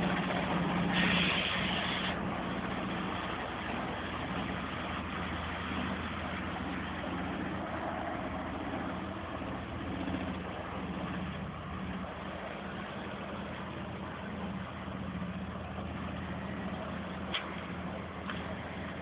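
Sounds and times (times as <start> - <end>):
diesel lorry engine at low revs: 0.0 - 19.0
water washing around wheels: 0.0 - 19.0.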